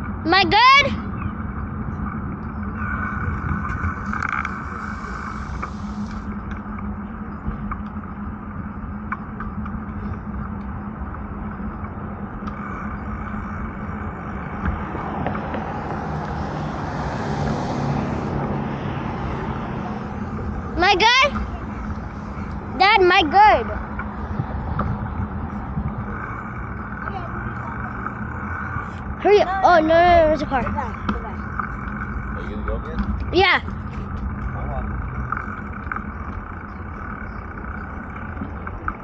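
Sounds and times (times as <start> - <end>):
bicycle road noise: 0.0 - 39.0
low hum: 0.0 - 39.0
wind: 0.0 - 39.0.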